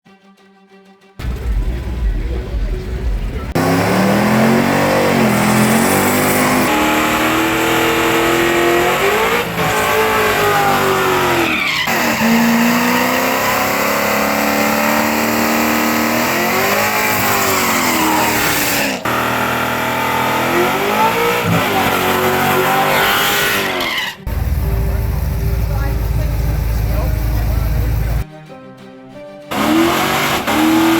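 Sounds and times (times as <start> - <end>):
race car engine accelerating: 1.2 - 28.2, 29.5 - 30.9.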